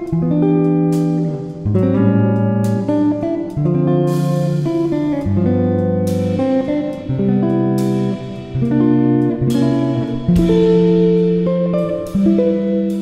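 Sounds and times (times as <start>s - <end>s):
guitar background music: 0.0s - 13.0s.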